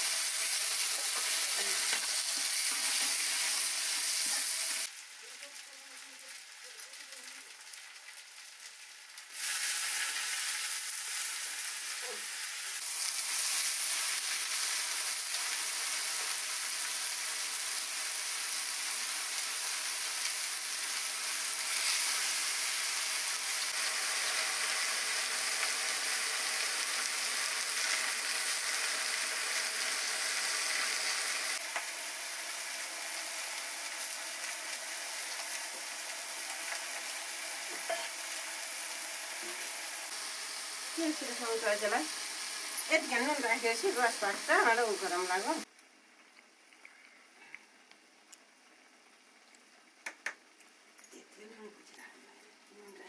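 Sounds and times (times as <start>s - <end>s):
mushrooms sizzling in oil: 0.0s - 45.7s.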